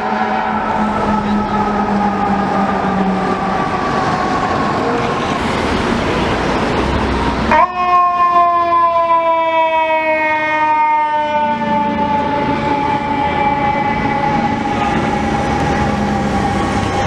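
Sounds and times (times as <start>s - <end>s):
mechanical siren wailing: 0.0s - 6.0s, 7.3s - 17.0s
diesel engine rumbling: 0.0s - 9.0s, 11.4s - 17.0s.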